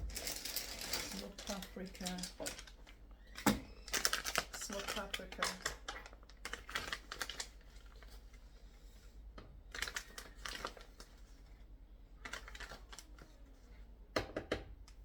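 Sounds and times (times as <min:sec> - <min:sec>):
clicks and rustling of containers: 0:00.0 - 0:08.4, 0:09.7 - 0:11.3, 0:12.2 - 0:15.0.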